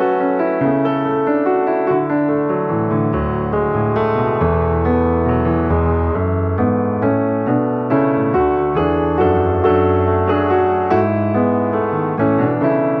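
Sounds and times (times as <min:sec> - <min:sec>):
calm piano music: 0:00.0 - 0:13.0.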